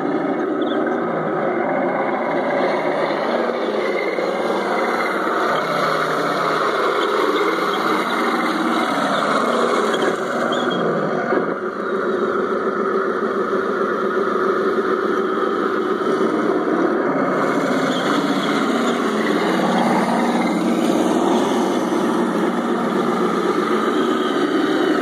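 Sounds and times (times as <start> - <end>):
model tanks driving: 0.0 - 25.0.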